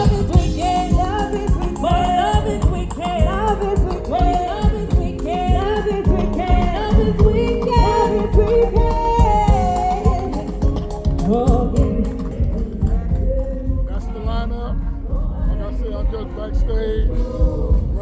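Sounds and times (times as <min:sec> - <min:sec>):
person singing: 0:00.0 - 0:18.0
reggae band music: 0:00.0 - 0:18.0.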